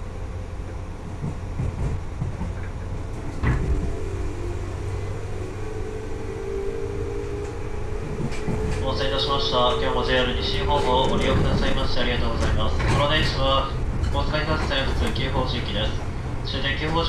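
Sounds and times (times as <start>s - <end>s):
train rumble inside car: 0.0s - 17.0s
traction motor whine: 2.6s - 17.0s.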